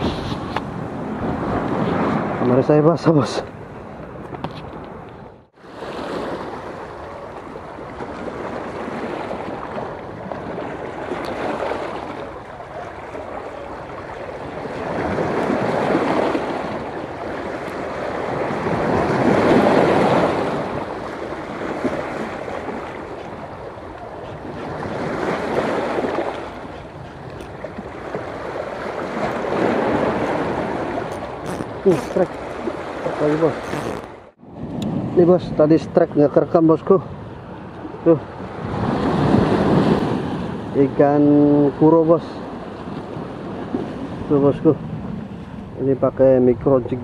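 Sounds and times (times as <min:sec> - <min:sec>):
sea waves washing onto shore: 0:05.5 - 0:35.7, 0:36.6 - 0:45.8.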